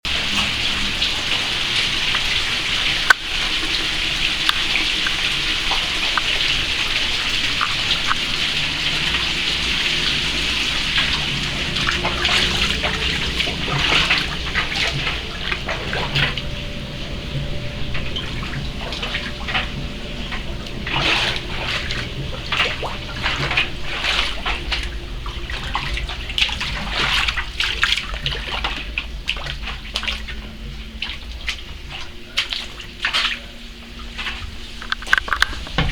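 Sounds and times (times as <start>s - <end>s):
water pouring and splashing: 0.0s - 35.9s
steady low hum: 0.1s - 35.9s.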